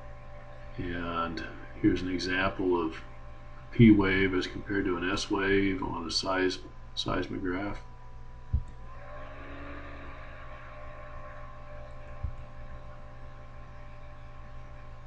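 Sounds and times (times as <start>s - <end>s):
steady low hum: 0.0s - 15.0s
whirring tone: 0.0s - 15.0s.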